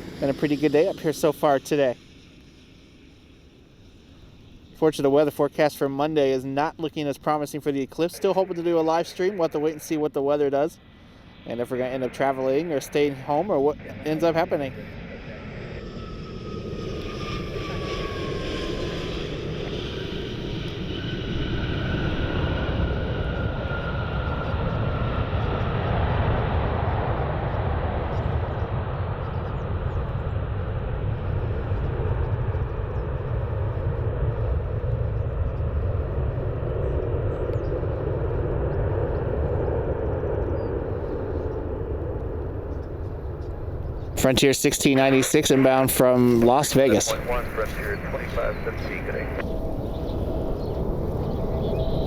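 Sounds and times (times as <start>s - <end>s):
fainter jet whine: 0.0s - 27.2s, 30.2s - 52.0s
jet engine rumble: 0.0s - 52.0s
jet engine whine: 0.0s - 52.0s.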